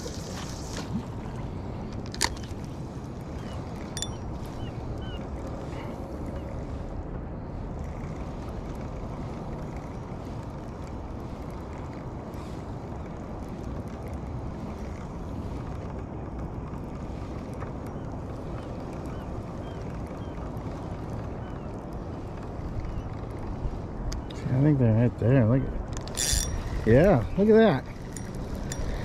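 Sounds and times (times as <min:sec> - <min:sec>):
wind rumbling across microphone: 0:00.0 - 0:29.0.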